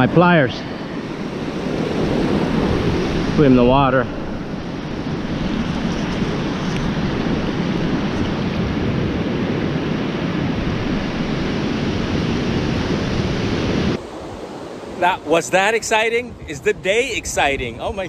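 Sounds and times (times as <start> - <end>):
wind on the microphone: 0.0 - 15.0, 16.2 - 18.0
ocean surf washing onto beach: 0.0 - 18.0.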